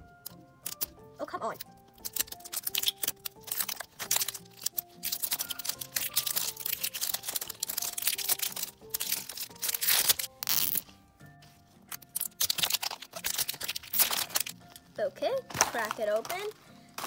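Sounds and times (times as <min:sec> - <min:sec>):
light background music: 0:00.0 - 0:17.0
plastic wrapper crinkling: 0:01.6 - 0:17.0.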